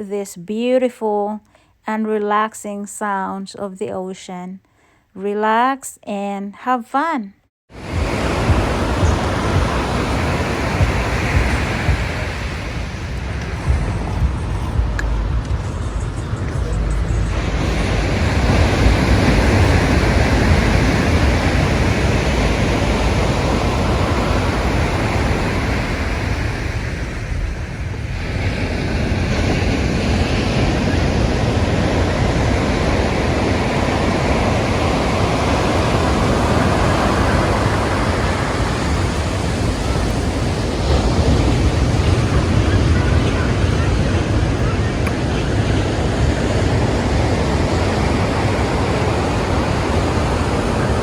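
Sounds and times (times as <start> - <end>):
ocean waves breaking: 7.7 - 51.0
wind buffeting microphone: 7.7 - 51.0.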